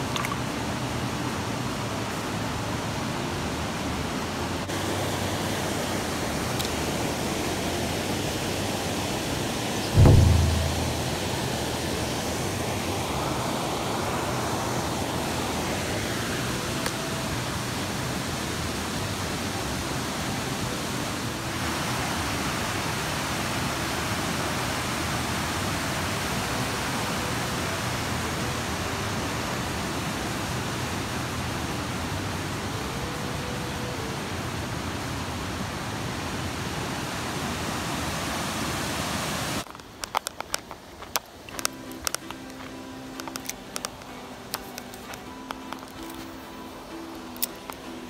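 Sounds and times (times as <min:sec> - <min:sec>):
river water rushing over rapids: 0:00.0 - 0:48.0.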